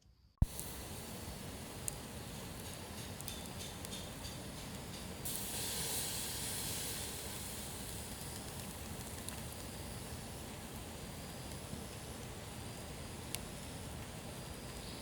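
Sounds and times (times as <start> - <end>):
hiss: 0.4 - 15.0.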